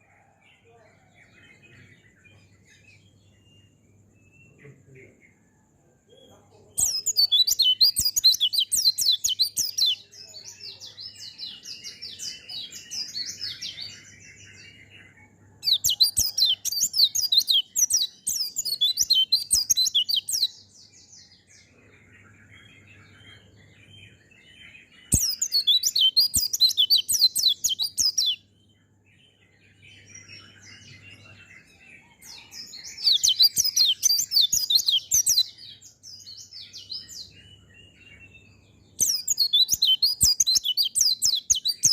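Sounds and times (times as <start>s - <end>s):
bird twittering song: 0.0s - 41.9s.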